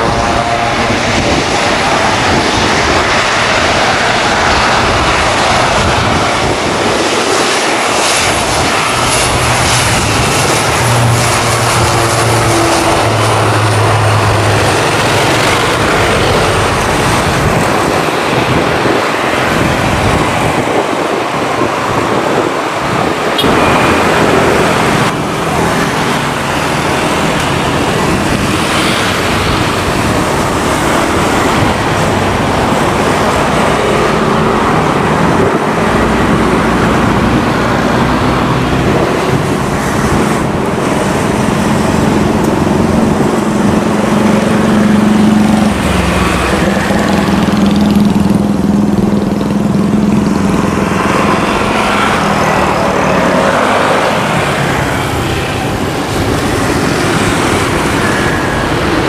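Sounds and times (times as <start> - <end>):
turboprop engine and propeller drone: 0.0 - 59.0.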